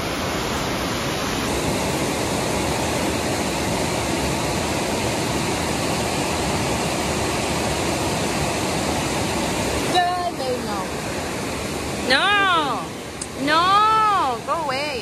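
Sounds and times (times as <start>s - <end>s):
white water rushing over rocks: 0.0s - 15.0s.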